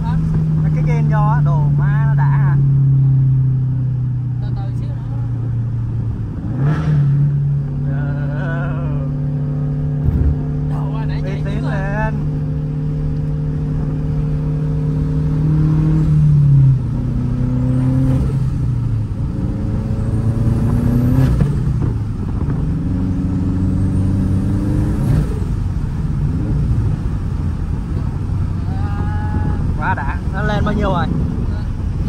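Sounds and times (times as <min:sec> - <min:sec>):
sports car engine accelerating: 0:00.0 - 0:32.0.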